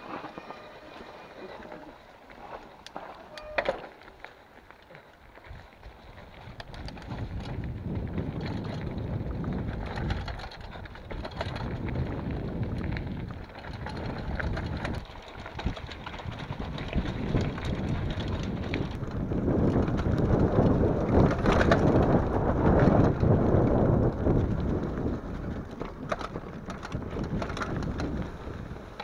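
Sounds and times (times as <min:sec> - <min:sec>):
bike rattles and clicks: 0:00.0 - 0:29.0
bike tyres on dirt: 0:00.0 - 0:29.0
wind rushing over microphone: 0:05.5 - 0:29.0.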